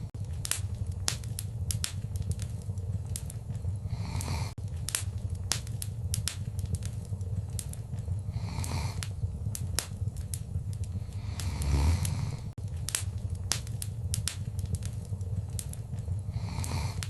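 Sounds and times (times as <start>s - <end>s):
fire hissing: 0.0s - 17.0s
wood fire crackling: 0.0s - 17.0s.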